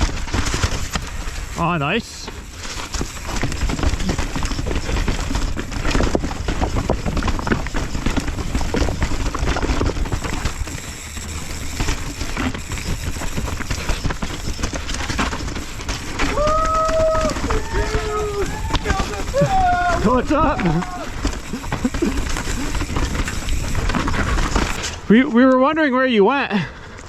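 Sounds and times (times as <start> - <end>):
bike rattling and clattering: 0.0 - 25.9
tyres rolling over dirt and rocks: 0.0 - 25.9.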